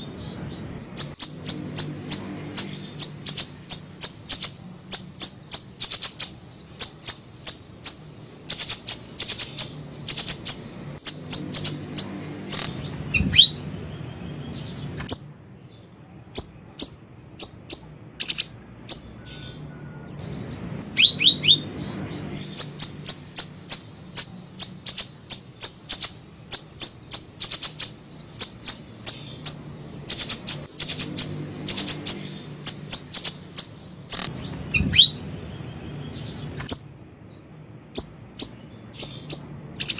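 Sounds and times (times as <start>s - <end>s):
bird chirping high sharp chirps: 0.0s - 39.9s.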